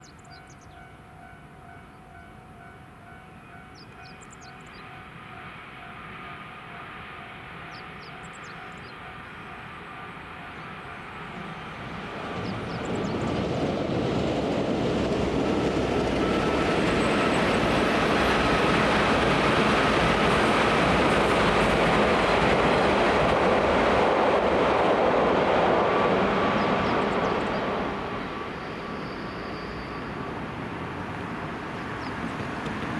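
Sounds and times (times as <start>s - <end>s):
train wheels on rail: 3.6s - 32.9s.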